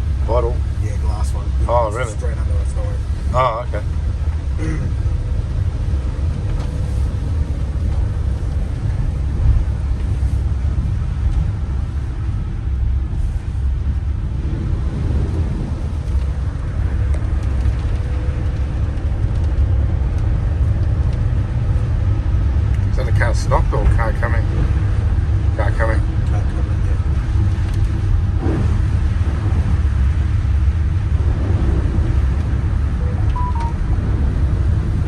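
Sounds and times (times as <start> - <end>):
road rumble: 0.0 - 35.0
vehicle engine driving: 0.0 - 35.0.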